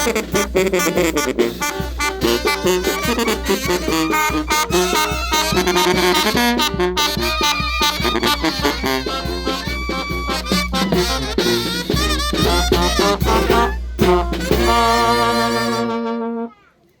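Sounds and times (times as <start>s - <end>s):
band playing ranchera music: 0.0s - 16.3s.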